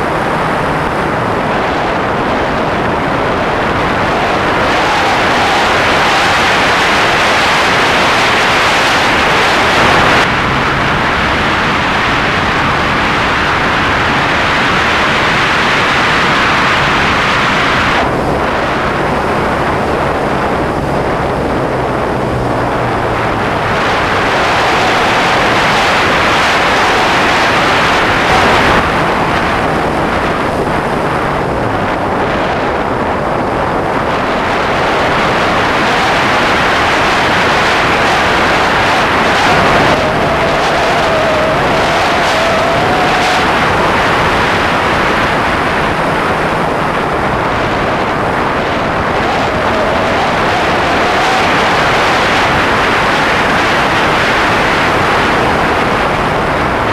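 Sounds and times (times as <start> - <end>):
loud wind rush: 0.0 - 56.9.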